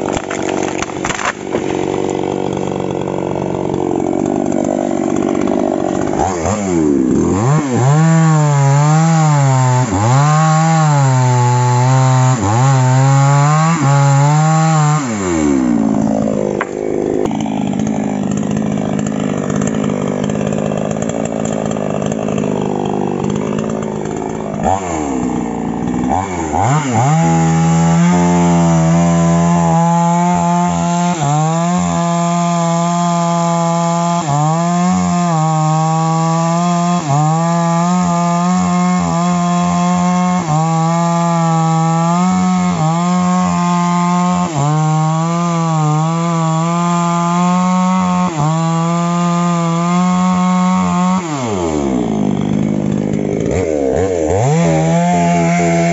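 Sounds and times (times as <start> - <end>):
chainsaw engine revving: 0.0 - 55.9.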